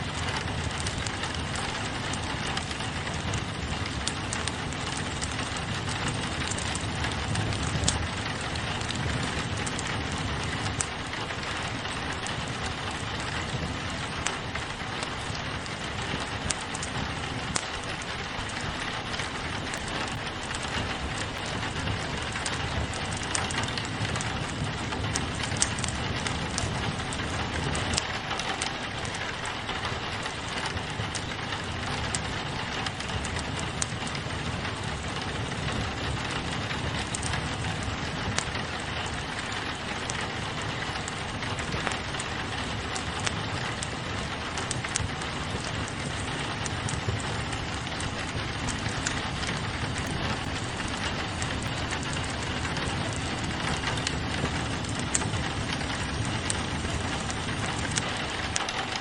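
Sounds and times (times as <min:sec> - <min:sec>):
crackling wood fire: 0:00.0 - 0:59.0
rain on a window: 0:00.0 - 0:59.0.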